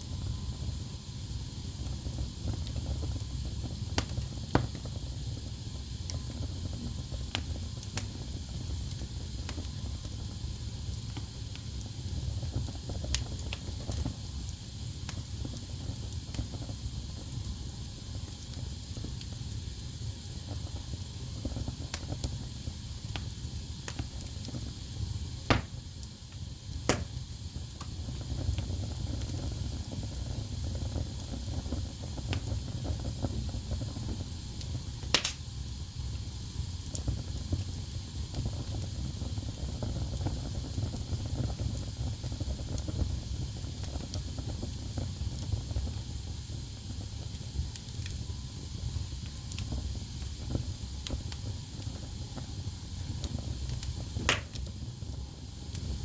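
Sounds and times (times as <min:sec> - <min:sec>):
fire crackling: 0:00.0 - 0:56.0
fire flames rumbling: 0:00.0 - 0:56.0
wood fire popping: 0:00.0 - 0:56.0.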